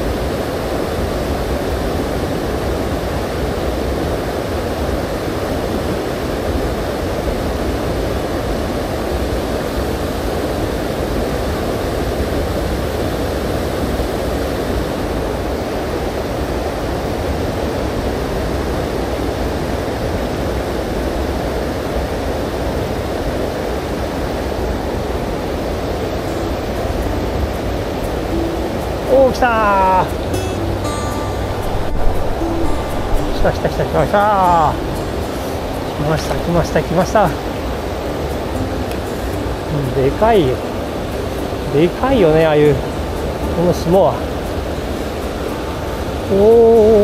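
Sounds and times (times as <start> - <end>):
river rushing over rocks: 0.0 - 47.0.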